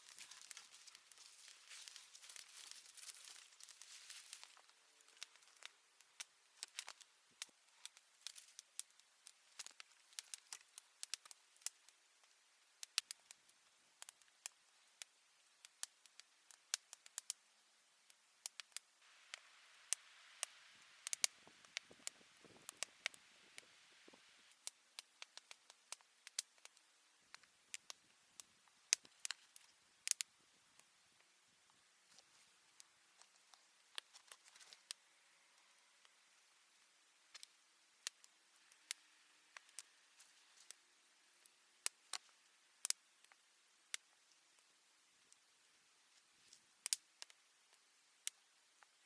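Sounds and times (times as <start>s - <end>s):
faint sharp clicks and crackles: 0.0s - 49.0s
soft hiss: 0.0s - 49.0s.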